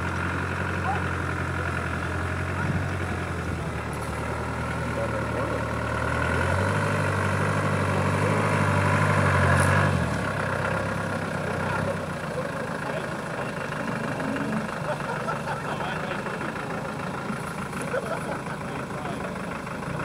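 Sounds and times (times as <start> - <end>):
off-road vehicle engine running: 0.0 - 20.0.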